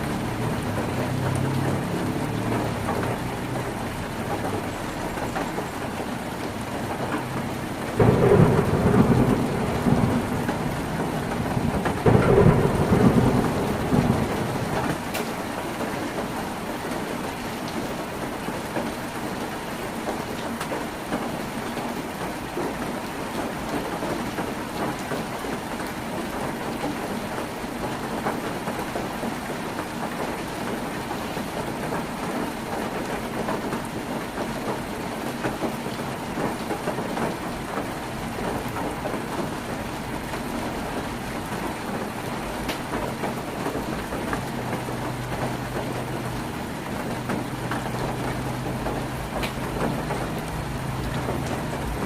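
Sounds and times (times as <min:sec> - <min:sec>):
heavy rain on a tin roof: 0:00.0 - 0:52.0.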